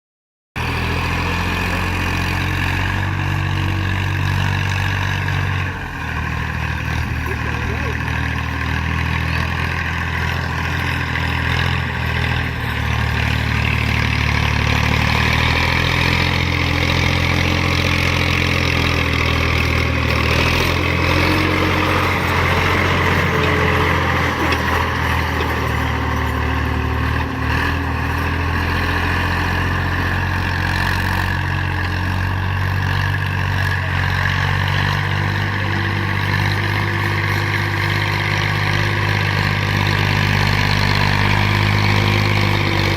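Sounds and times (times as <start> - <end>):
tractor engine running under load: 0.6 - 42.9.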